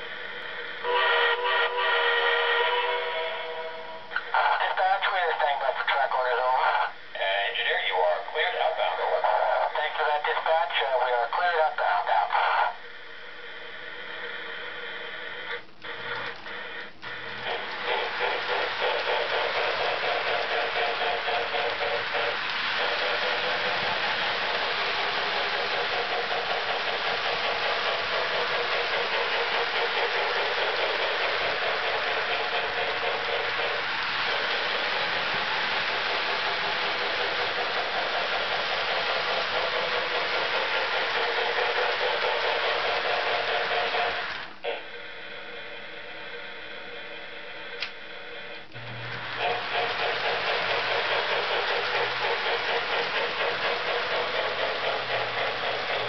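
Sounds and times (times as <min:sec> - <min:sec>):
model train whistle: 0:00.0 - 0:04.4, 0:14.2 - 0:56.0
steam locomotive chuffing: 0:00.0 - 0:56.0.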